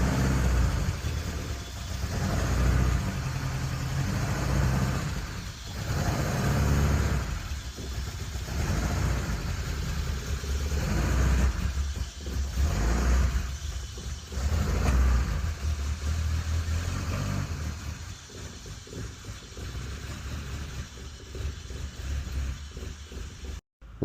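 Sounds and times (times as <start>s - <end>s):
car engine revving lightly: 0.0s - 24.0s.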